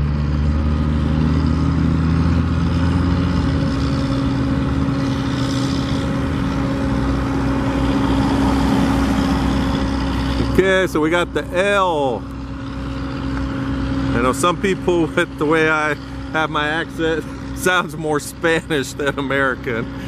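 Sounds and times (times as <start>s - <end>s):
engine humming: 0.0s - 20.0s
steady drone: 0.0s - 20.0s.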